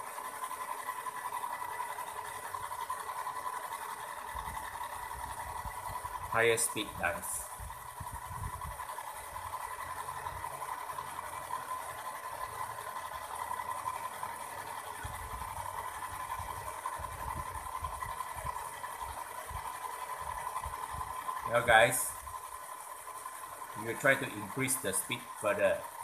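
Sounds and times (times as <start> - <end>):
toy helicopter rotors whirring: 0.0 - 26.0.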